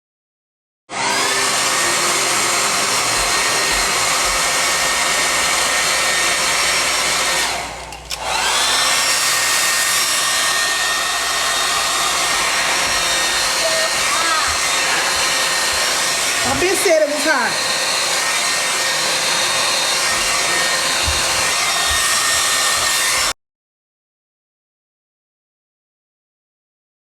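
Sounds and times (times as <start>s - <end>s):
hair dryer blowing: 0.9s - 23.4s.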